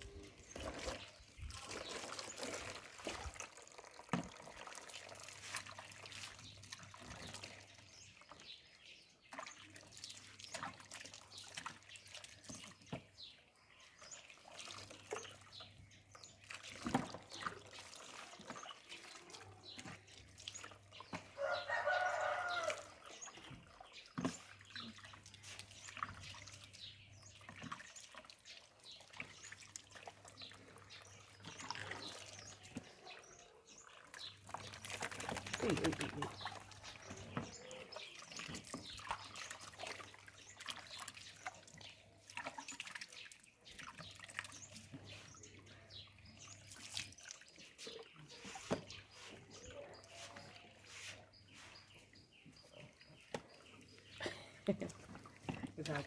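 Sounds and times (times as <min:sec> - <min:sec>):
water splashing and dripping: 0:00.0 - 0:56.0.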